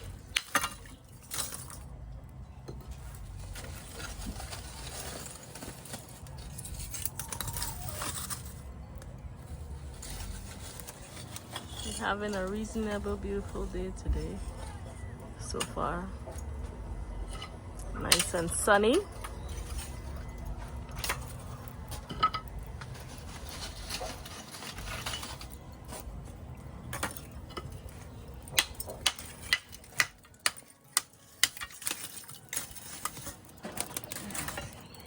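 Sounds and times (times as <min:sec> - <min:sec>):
utensils and dishes clinking: 0:00.0 - 0:35.0.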